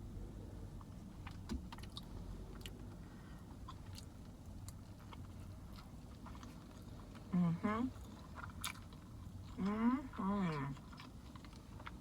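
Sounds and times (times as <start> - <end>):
low steady hum: 0.0 - 12.0
person chewing food: 0.8 - 7.3, 8.0 - 9.8, 10.6 - 12.0.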